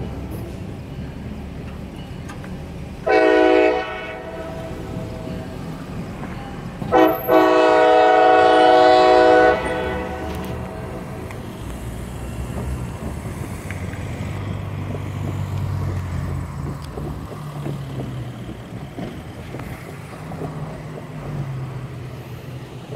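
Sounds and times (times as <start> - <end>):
cars driving past: 0.0 - 22.9.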